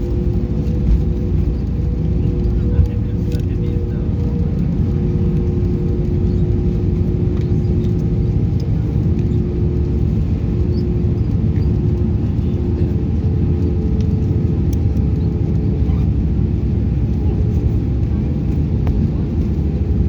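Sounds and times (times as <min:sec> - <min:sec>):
aircraft cabin engine rumble: 0:00.0 - 0:20.0
steady hum: 0:00.0 - 0:20.0.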